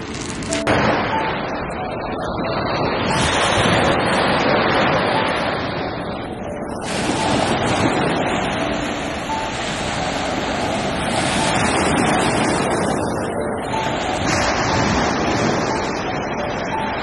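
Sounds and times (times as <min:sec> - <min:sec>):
waves breaking on shore: 0:00.0 - 0:17.0
wind on microphone: 0:00.0 - 0:17.0.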